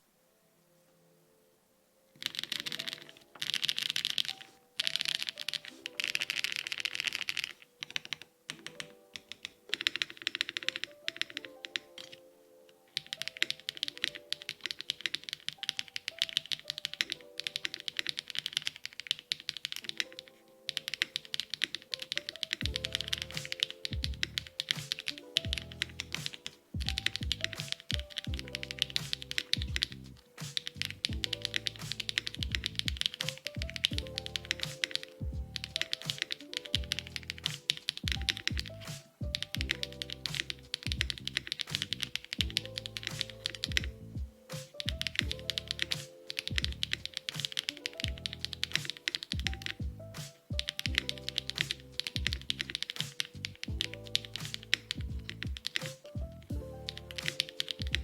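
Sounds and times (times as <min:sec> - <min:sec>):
mechanical keyboard typing: 0:02.2 - 0:12.2, 0:12.9 - 0:58.0.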